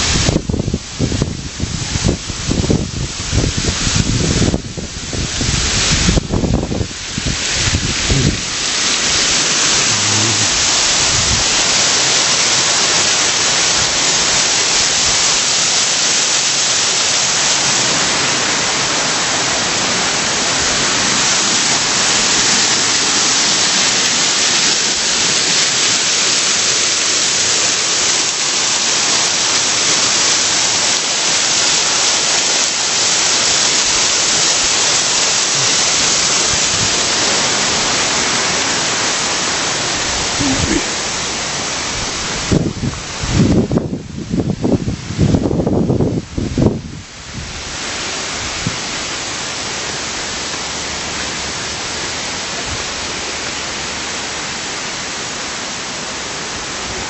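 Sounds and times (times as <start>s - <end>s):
rushing water of waterfall: 0.0s - 57.0s.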